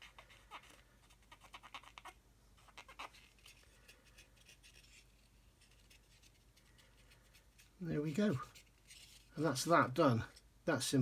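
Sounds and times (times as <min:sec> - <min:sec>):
cotton bud scrubbing plastic: 0:00.0 - 0:10.4.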